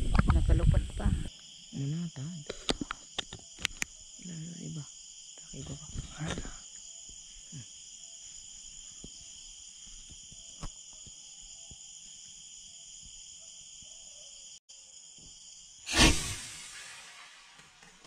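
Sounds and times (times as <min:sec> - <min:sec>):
night insects trilling: 0:00.0 - 0:17.9.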